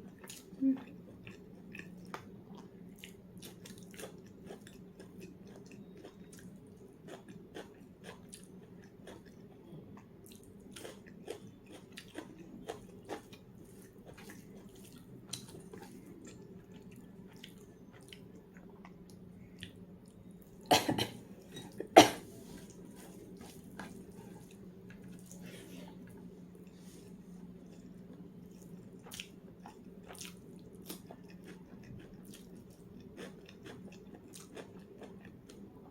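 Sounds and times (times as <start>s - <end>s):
person chewing food: 0.0s - 20.5s, 21.7s - 35.9s
steady low hum: 0.0s - 35.9s.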